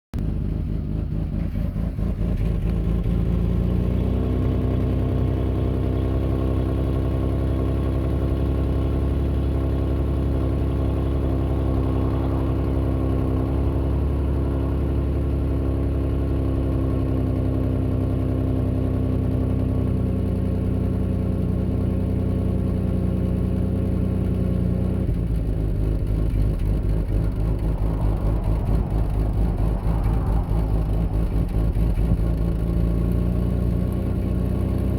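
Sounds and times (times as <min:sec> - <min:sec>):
car engine revving: 0:00.2 - 0:16.8, 0:22.5 - 0:34.9.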